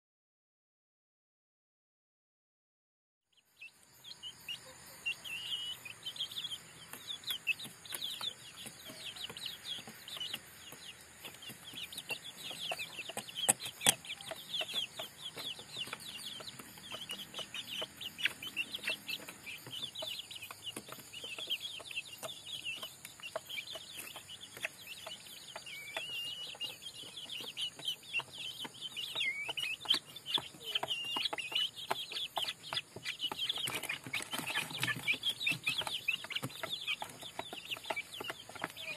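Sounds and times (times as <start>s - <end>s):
chicks peeping: 3.4s - 38.9s.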